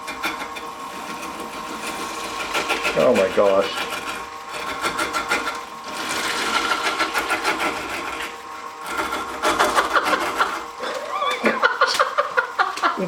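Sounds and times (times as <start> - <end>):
lathe motor whine: 0.0 - 13.0
turning tool chattering on wood: 0.0 - 13.0.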